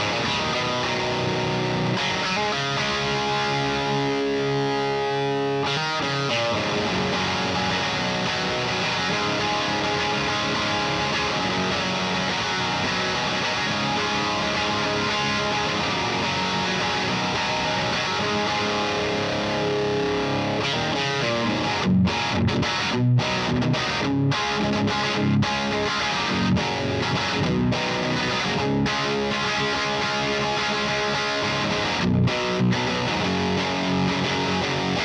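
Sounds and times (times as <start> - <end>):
overdriven electric guitar riffs: 0.0 - 35.0.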